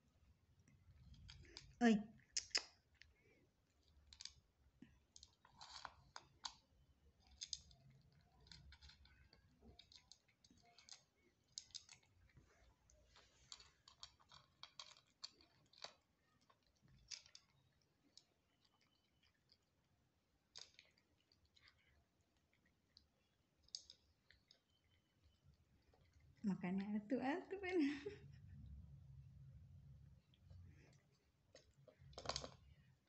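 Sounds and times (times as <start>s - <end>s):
cat chewing crunchy food: 0.6s - 26.4s, 29.5s - 33.0s.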